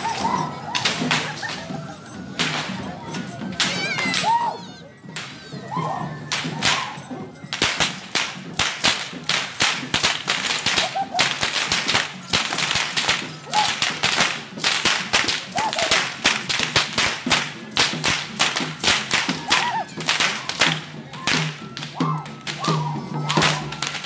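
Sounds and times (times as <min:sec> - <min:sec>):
whips cracking: 0:00.0 - 0:01.6, 0:06.3 - 0:24.0.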